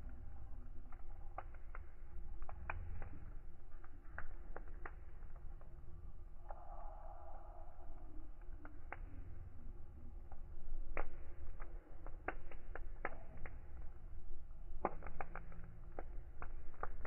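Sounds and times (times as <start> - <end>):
fire crackling: 0.0 - 17.0
low steady rumble: 0.0 - 17.0.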